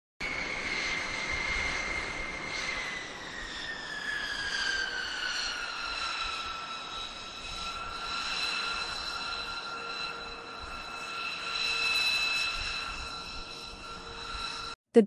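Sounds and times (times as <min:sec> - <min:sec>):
jet engines whining at low power: 0:00.2 - 0:14.8.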